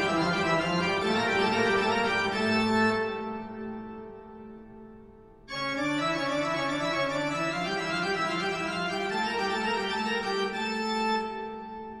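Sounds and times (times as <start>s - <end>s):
slow sustained keyboard chords: 0.0s - 12.0s.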